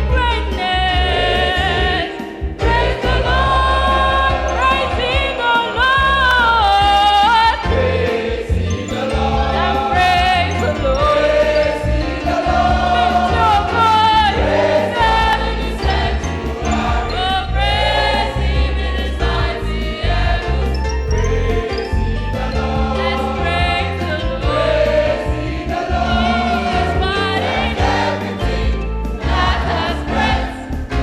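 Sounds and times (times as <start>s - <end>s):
choir singing gospel: 0.0s - 31.0s.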